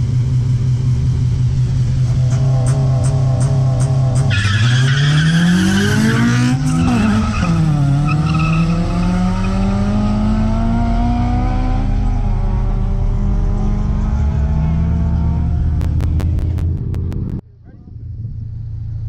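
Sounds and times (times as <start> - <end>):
car engines revving hard: 0.0 - 17.4.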